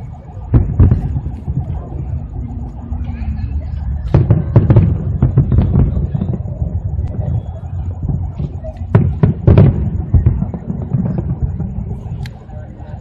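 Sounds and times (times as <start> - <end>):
fireworks bursting: 0.0 - 13.0
steady low rumble: 0.0 - 13.0.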